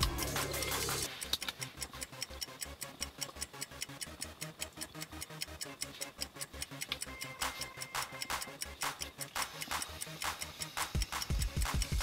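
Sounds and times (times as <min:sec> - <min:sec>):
rapid mechanical ticking: 0:00.0 - 0:12.0.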